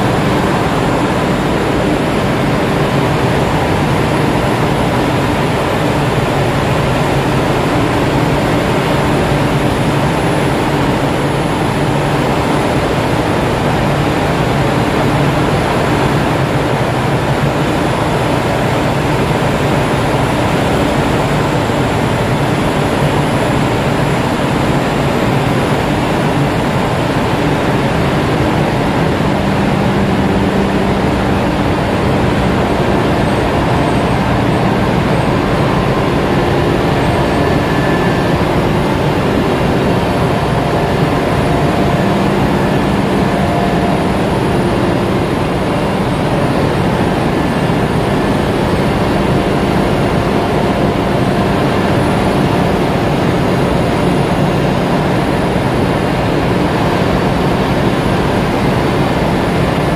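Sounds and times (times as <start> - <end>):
engine room machinery din: 0.0 - 59.9.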